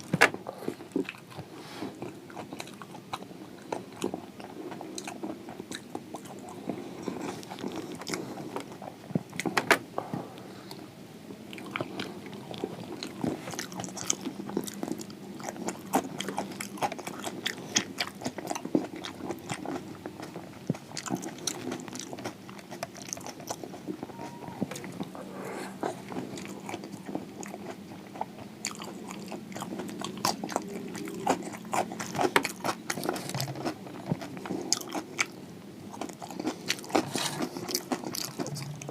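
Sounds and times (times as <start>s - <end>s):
person chewing crispy food: 0.0s - 10.9s, 11.5s - 38.9s
faint steady hum: 0.0s - 38.9s.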